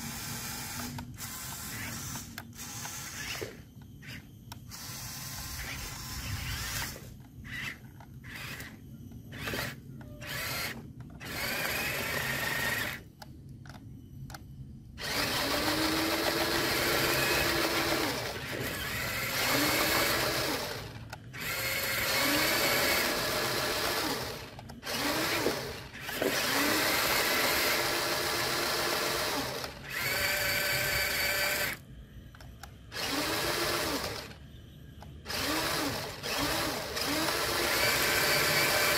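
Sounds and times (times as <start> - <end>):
electric motors whining: 0.0 - 14.4, 15.0 - 34.4, 35.0 - 38.9.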